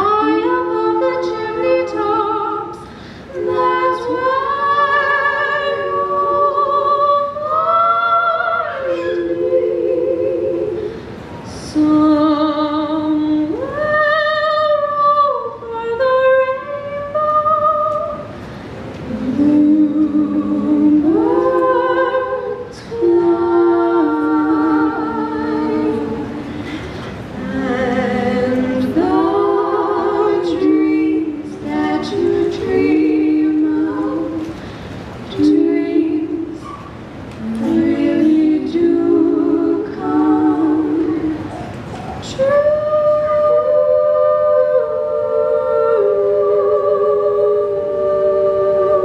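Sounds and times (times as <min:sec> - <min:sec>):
women singing in harmony: 0:00.0 - 0:49.0.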